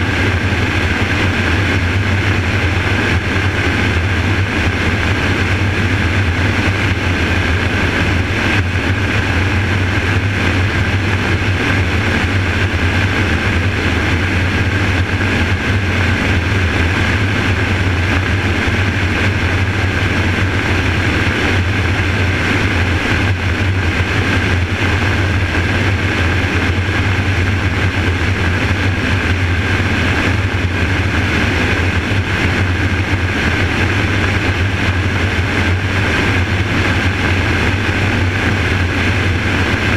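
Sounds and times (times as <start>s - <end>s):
helicopter rotor drone: 0.0s - 39.9s
high-pitched turbine whine: 0.0s - 39.9s
rushing air noise: 0.0s - 39.9s.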